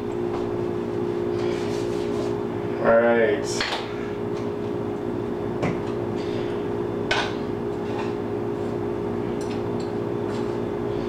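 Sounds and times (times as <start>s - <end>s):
appliance humming: 0.0s - 11.0s.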